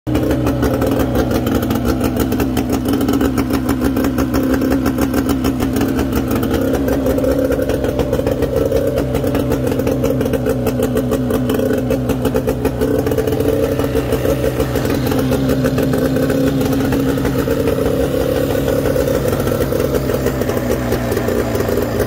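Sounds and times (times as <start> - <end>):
outboard motor running: 0.1 - 22.0.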